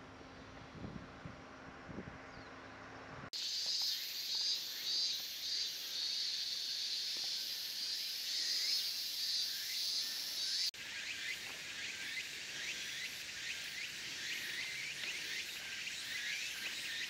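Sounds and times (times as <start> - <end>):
insects buzzing and chirping: 3.3 - 17.0.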